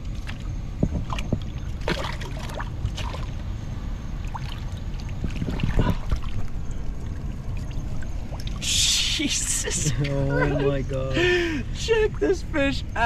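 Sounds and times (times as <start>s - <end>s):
water splashing and sloshing: 0.0s - 11.3s
steady low rumble: 0.0s - 13.0s.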